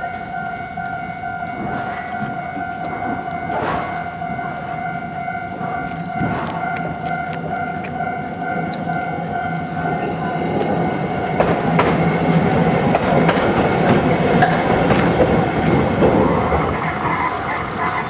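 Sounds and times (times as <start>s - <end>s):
level crossing warning bell: 0.0s - 18.0s
tram wheels clacking over rail joints: 0.0s - 18.0s.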